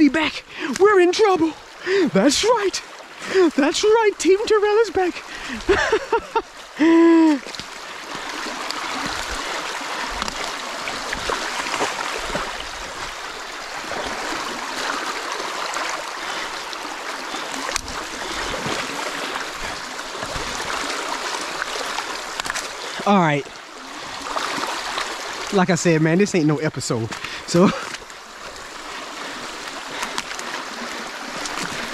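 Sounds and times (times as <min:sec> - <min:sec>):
small splashes: 0:00.0 - 0:25.6, 0:27.1 - 0:31.9
creek water rushing and gurgling: 0:00.0 - 0:31.9.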